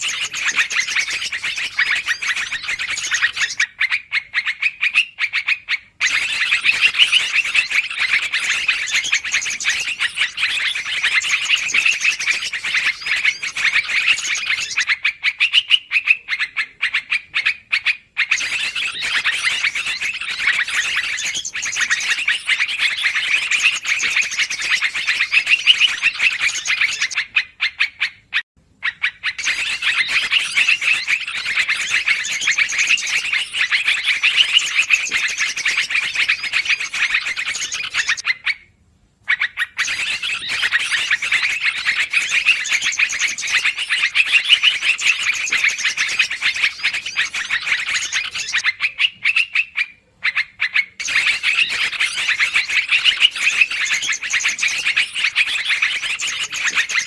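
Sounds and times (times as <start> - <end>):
bulbuls chattering: 0.0 - 3.7, 6.0 - 27.4, 29.2 - 38.2, 39.9 - 49.3, 50.2 - 57.0.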